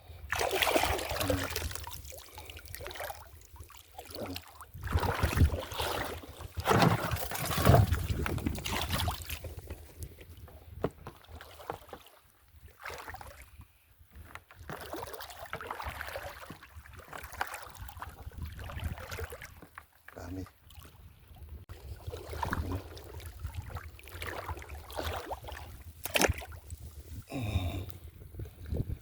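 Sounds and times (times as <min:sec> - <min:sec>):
seawater sloshing and splashing: 0:00.3 - 0:10.1, 0:10.8 - 0:13.6, 0:14.5 - 0:27.3.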